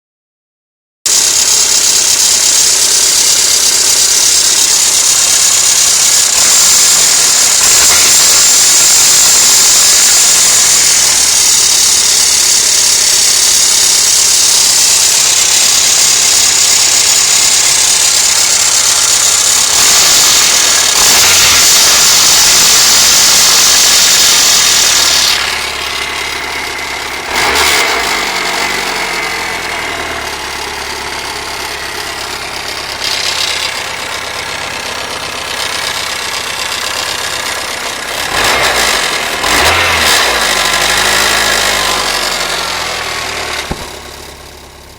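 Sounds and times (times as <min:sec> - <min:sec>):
car engine idling with knock: 0:01.1 - 0:44.9.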